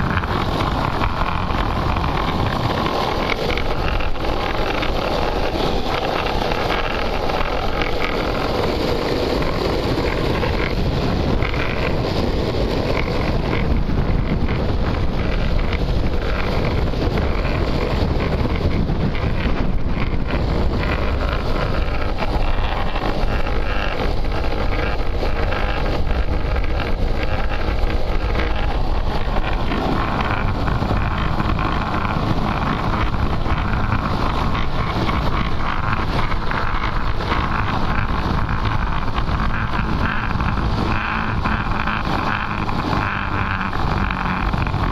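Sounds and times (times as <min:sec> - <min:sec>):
wheels rolling on asphalt: 0:00.0 - 0:44.9
wind buffeting microphone: 0:00.0 - 0:44.9.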